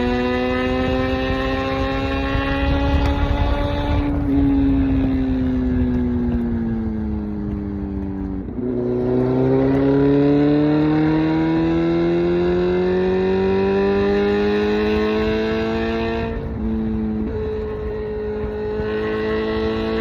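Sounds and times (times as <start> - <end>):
motorcycle engine revving: 0.0 - 20.0
wind rumble: 0.0 - 20.0.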